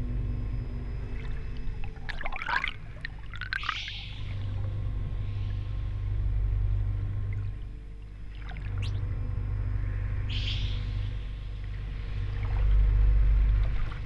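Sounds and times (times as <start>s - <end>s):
rising sonar chirps: 0.0s - 14.0s
underwater water noise: 0.0s - 14.0s.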